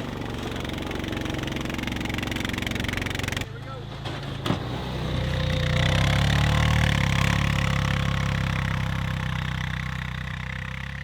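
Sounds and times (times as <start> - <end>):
plow engine running under load: 0.0 - 11.0.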